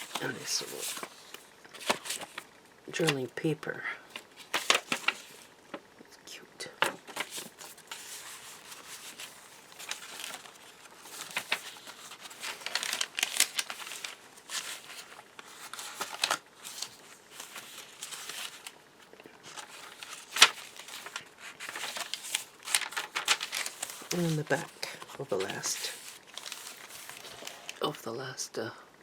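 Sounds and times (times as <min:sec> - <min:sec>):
paper pages rustling: 0:00.0 - 0:03.3, 0:04.1 - 0:05.8, 0:06.8 - 0:27.9.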